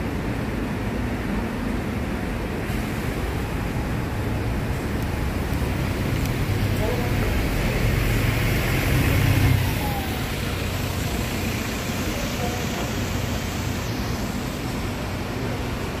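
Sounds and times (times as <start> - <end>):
bus engine rumble passing by: 0.0 - 16.0.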